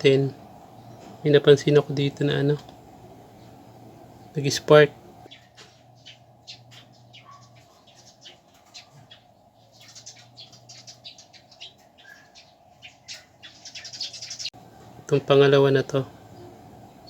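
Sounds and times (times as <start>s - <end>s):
faint birds chirping: 0.0s - 17.0s
low electrical hum: 0.0s - 17.0s.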